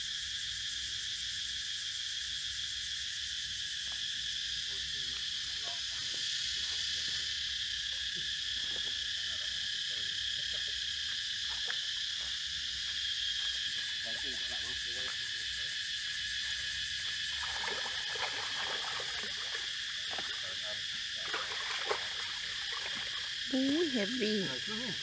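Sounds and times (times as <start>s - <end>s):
insect chorus buzzing and trilling: 0.0s - 25.0s.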